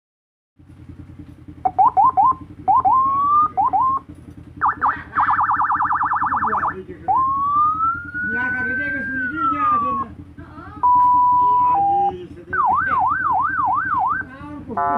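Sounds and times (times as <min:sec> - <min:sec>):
steady low hum: 0:00.6 - 0:14.9
electronic siren: 0:01.6 - 0:10.1, 0:10.8 - 0:14.9.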